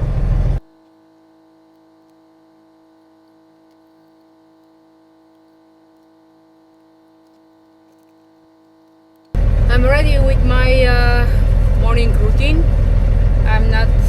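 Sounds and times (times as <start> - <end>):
faint tonal hum: 0.0 - 14.0.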